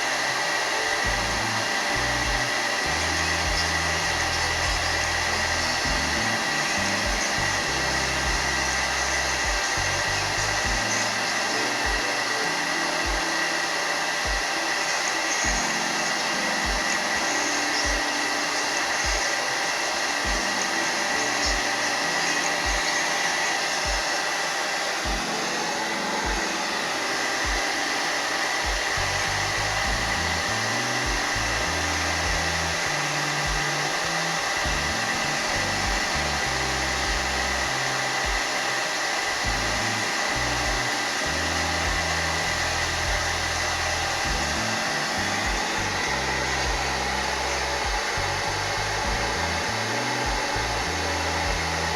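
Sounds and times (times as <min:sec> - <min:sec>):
background music with low beat: 0:00.0 - 0:14.8, 0:15.4 - 0:24.2, 0:25.0 - 0:51.9
hair dryer blowing: 0:00.0 - 0:51.9.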